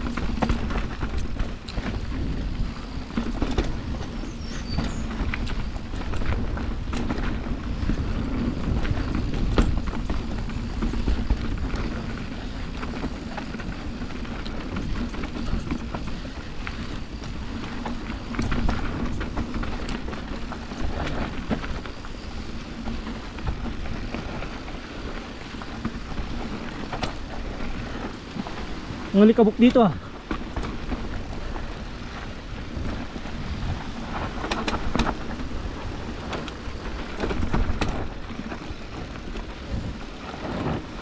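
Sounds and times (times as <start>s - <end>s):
bike rattling and knocking: 0.0s - 41.0s
tyres rolling on dirt: 0.0s - 41.0s
wind rushing over microphone: 0.0s - 41.0s.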